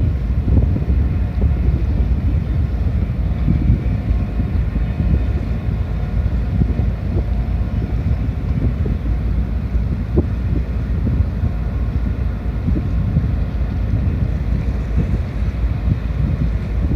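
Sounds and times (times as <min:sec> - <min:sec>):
faint machinery whine: 0:00.0 - 0:16.9
ship engines low rumble: 0:00.0 - 0:16.9
wind buffeting microphone: 0:00.0 - 0:16.9.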